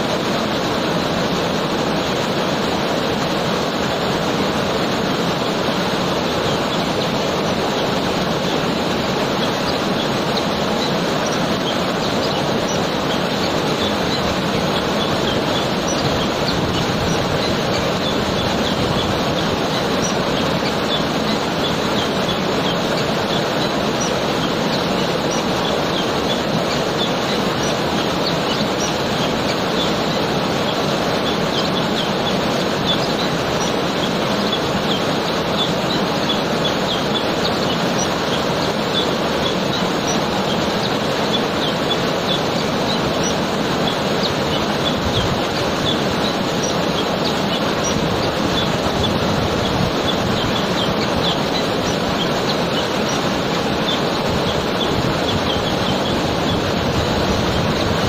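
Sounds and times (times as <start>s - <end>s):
small birds chirping: 0.0s - 58.0s
waterfall pouring over rocks: 0.0s - 58.0s.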